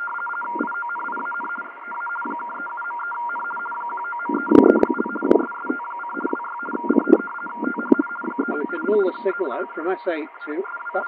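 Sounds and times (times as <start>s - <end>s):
two-tone data signal: 0.0s - 11.0s.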